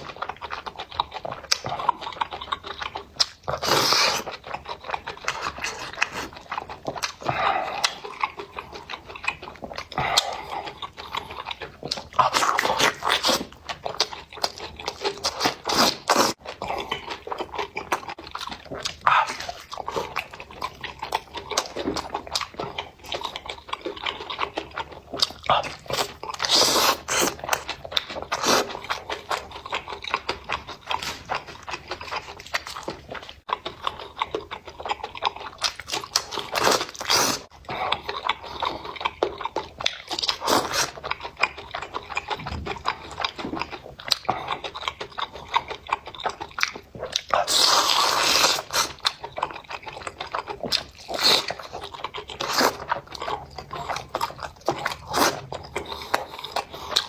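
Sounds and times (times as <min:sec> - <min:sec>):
chewing and crunching mushrooms: 0:00.0 - 0:57.0.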